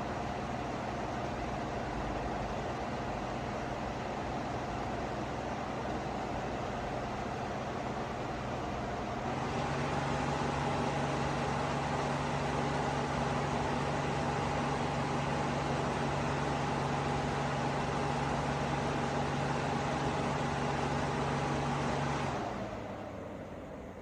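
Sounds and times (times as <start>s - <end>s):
tower fan running: 0.0s - 24.0s.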